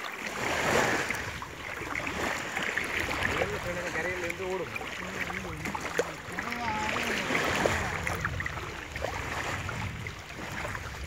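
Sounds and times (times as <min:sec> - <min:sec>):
sea water sloshing and splashing: 0:00.0 - 0:11.0.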